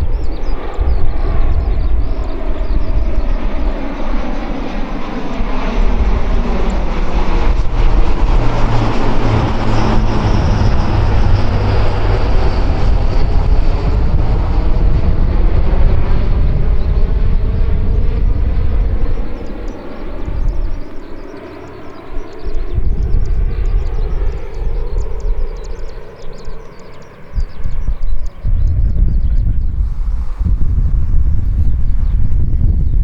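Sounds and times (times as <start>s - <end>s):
military aircraft engine: 0.0s - 33.0s.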